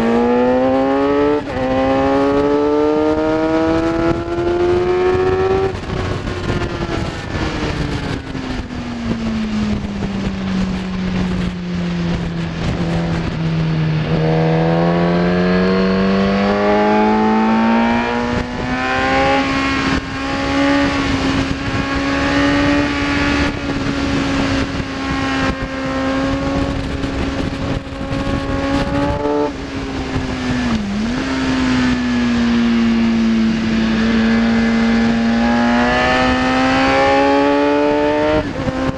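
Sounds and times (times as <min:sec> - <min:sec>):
motorcycle engine revving: 0:00.0 - 0:38.9
wind noise rushing: 0:00.0 - 0:38.9.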